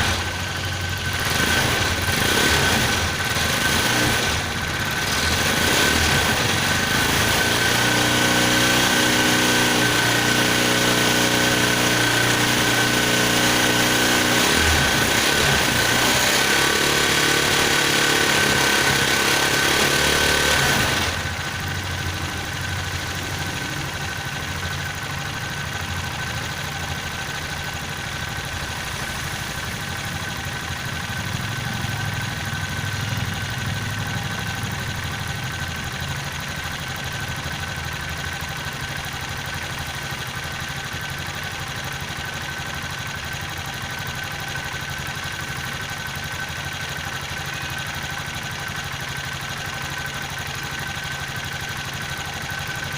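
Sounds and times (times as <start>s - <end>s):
engine idling: 0.0s - 52.9s.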